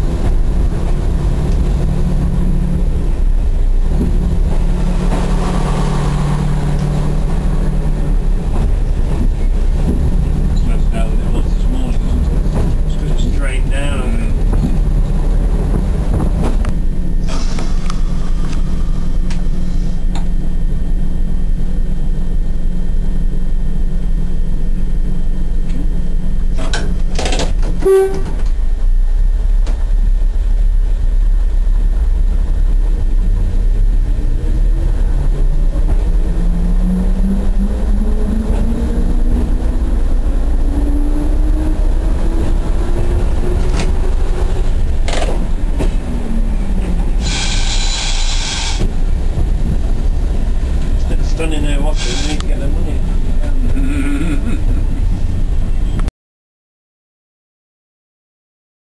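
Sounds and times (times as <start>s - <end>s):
diesel train engine droning: 0.0s - 56.1s.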